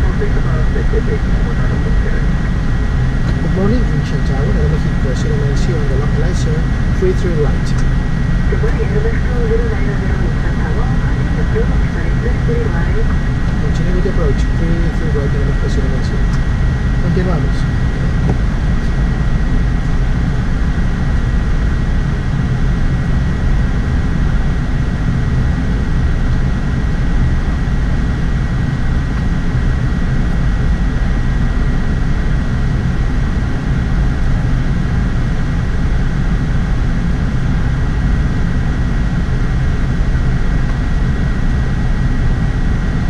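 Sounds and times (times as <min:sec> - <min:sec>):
airflow and jet engines rushing: 0:00.0 - 0:43.0
thin steady whine: 0:00.0 - 0:43.0.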